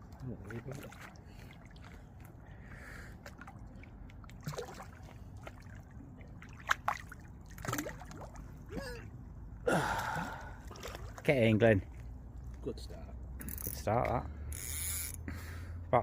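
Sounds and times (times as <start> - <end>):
water sloshing and splashing: 0.0 - 13.4
low steady rumble: 0.0 - 16.0.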